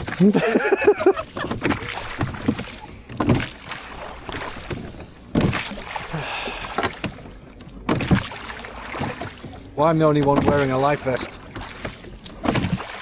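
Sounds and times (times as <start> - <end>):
oars splashing in water: 0.0 - 13.0.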